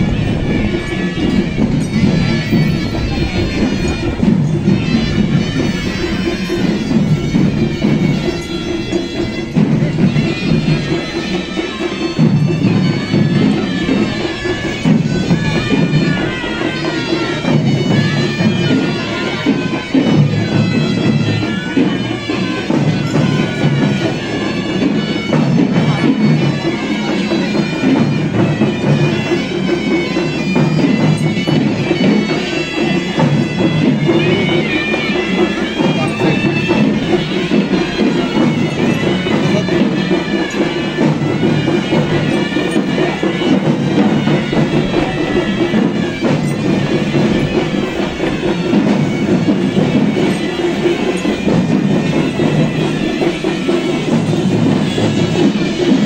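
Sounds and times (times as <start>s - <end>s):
drumming: 0.0s - 56.0s
shrill reed wind instrument: 0.0s - 56.0s.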